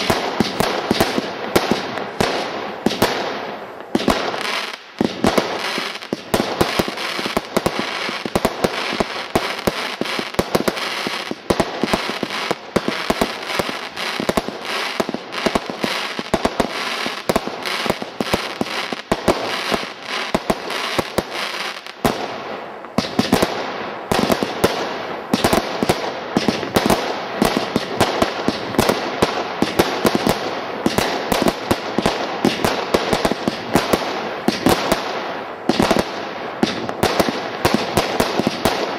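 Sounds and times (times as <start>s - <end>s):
firework bangs: 0.0s - 38.9s
firework crackling: 0.0s - 38.9s.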